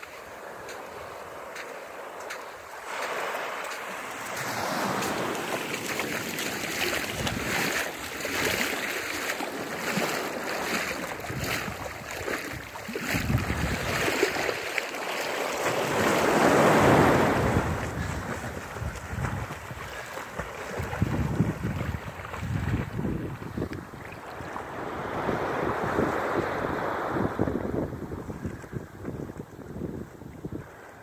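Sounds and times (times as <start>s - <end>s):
ocean waves breaking: 0.0s - 28.5s.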